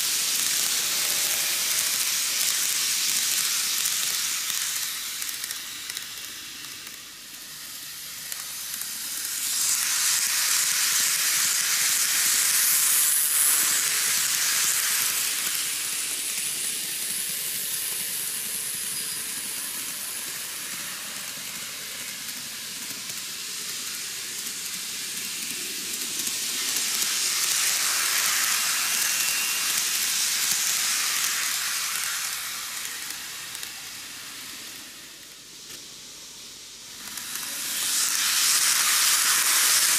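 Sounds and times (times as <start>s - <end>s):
model train wheels and motor hiss: 0.0s - 39.9s.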